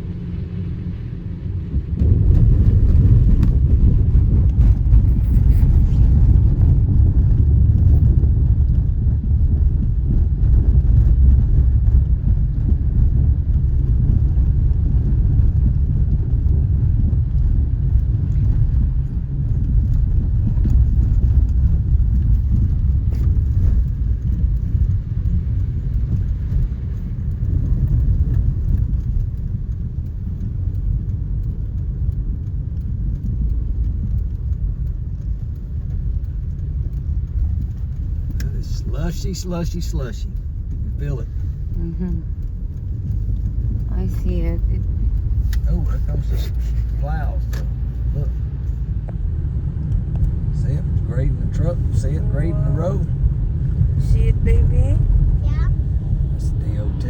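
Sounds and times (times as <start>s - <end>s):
car driving rumble: 0.0s - 57.0s
road and tyre noise: 0.0s - 57.0s.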